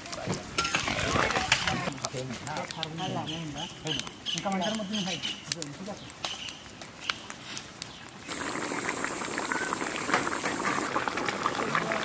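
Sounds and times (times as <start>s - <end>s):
curry boiling with crackle and hiss: 0.0s - 12.0s.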